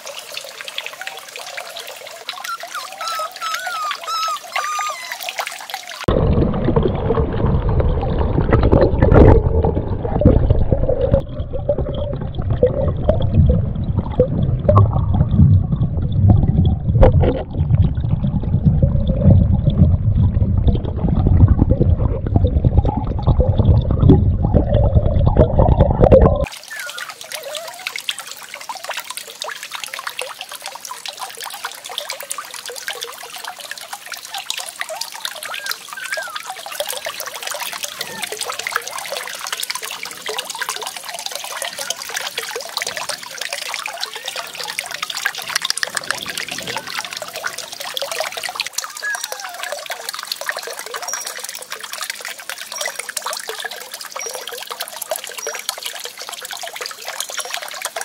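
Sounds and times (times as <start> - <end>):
heavy water gush: 0.0 - 58.0
water running and trickling: 0.0 - 58.0.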